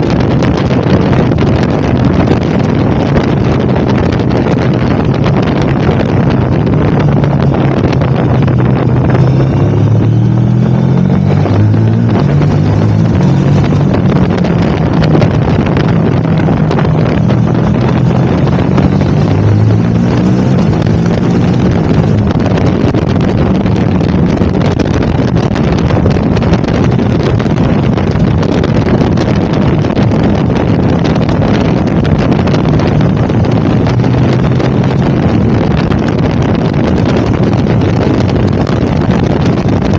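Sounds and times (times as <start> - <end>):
motorcycle engine revving: 0.0 - 39.9
wind rushing on microphone: 0.0 - 39.9.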